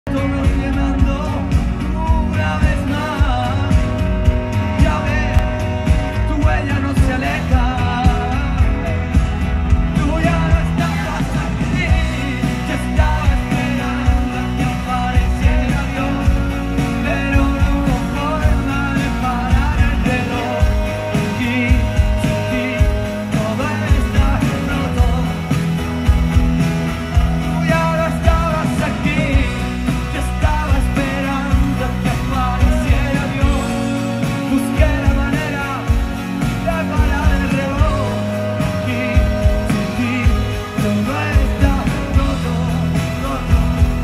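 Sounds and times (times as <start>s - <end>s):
live pop band music: 0.0s - 44.0s
man singing: 0.0s - 44.0s.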